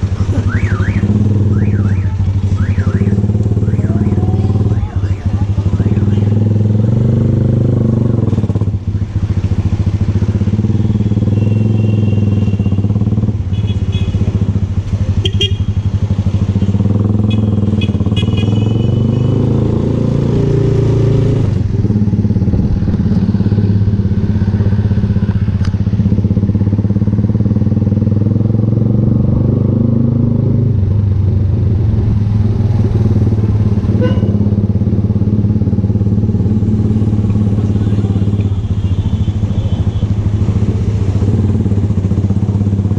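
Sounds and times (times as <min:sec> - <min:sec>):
motorcycle engine cruising: 0:00.0 - 0:42.9.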